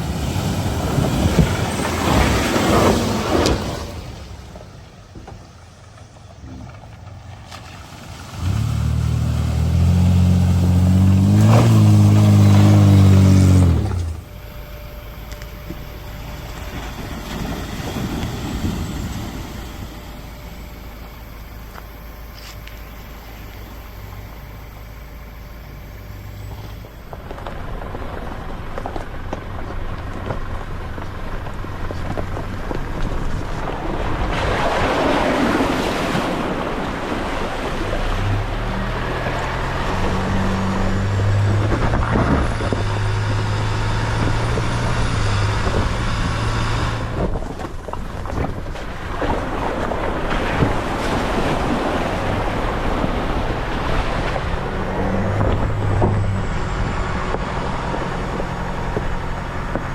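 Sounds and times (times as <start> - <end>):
vehicle engine running: 4.0 - 59.9.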